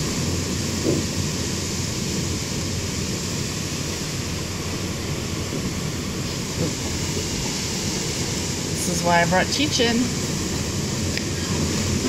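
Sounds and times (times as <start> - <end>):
rain: 0.0 - 12.0.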